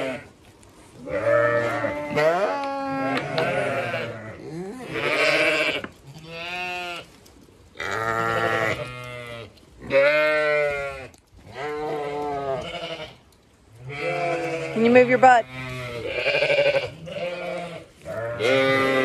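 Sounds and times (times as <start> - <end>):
sheep bleating: 1.0 - 7.1, 7.8 - 13.2, 13.8 - 19.0.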